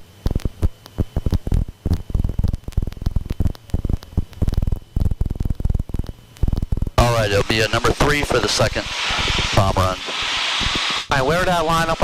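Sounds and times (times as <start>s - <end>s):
aircraft engine throbbing hum: 0.0s - 12.0s
thin high whine: 0.0s - 12.0s.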